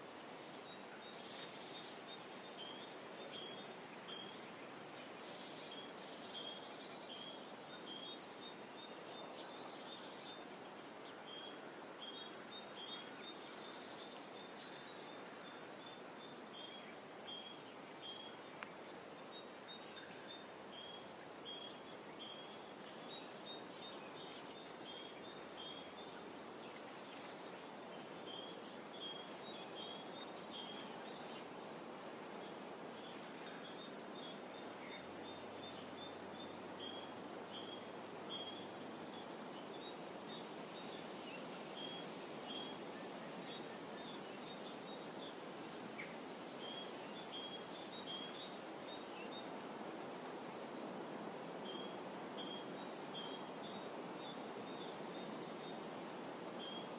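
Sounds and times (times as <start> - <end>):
small birds chirping: 0.0 - 56.9
soft background hiss: 0.0 - 56.9.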